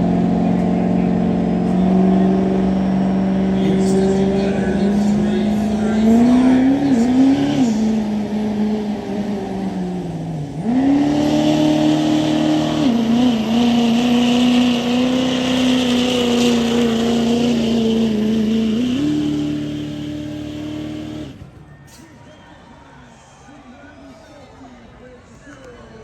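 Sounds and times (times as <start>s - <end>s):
truck engine revving under load: 0.0s - 21.7s.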